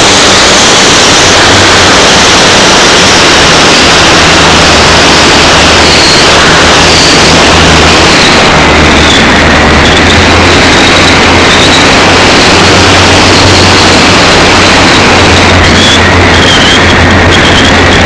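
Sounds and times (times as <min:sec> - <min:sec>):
electric motor and propeller: 0:00.0 - 0:18.0
wind rush on microphone: 0:00.0 - 0:18.0.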